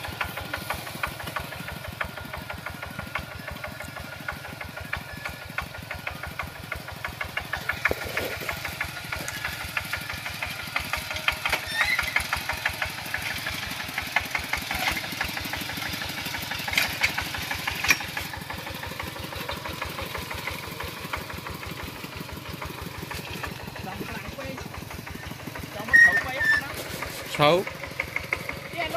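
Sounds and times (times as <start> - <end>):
diesel engine chugging: 0.0 - 28.9.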